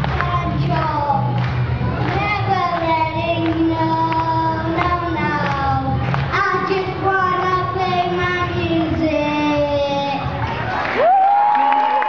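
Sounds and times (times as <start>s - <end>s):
boy singing pop song: 0.0s - 10.5s.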